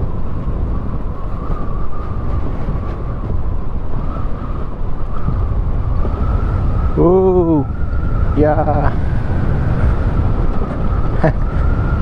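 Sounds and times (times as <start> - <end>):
wind and road noise on microphone: 0.0 - 12.0.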